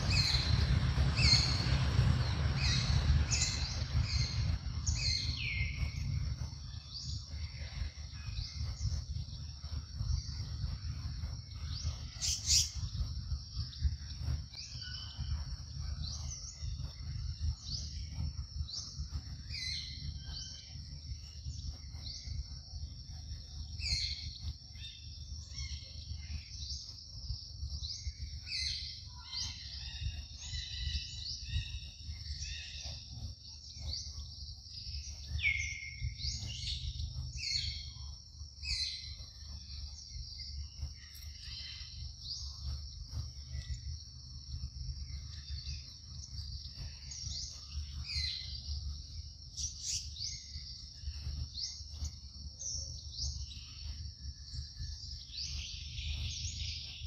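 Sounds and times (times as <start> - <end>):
bird chirps and calls: 0.0 - 57.0
insects droning: 0.0 - 57.0
steady low rumble: 0.0 - 57.0.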